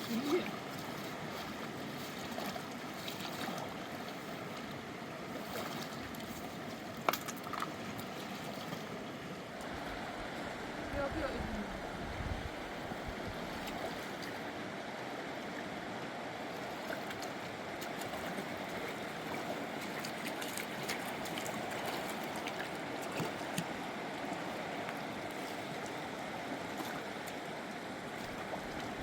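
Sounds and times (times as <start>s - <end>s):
rushing river water: 0.0s - 29.0s.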